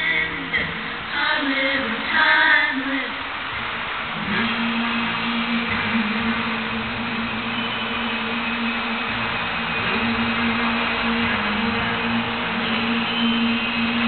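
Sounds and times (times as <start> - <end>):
fountain water jets spraying: 0.0 - 14.0
music with long held notes: 0.0 - 14.0.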